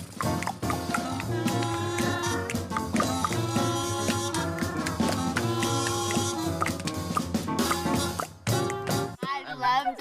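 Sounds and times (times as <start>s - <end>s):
instrumental music with beat: 0.0s - 9.2s.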